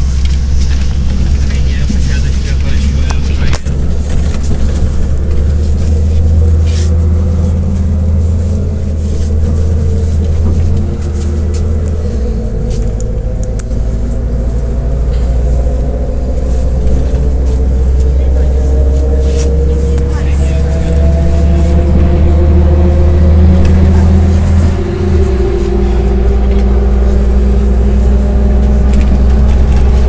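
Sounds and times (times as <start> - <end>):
bus diesel engine drone: 0.0 - 30.0.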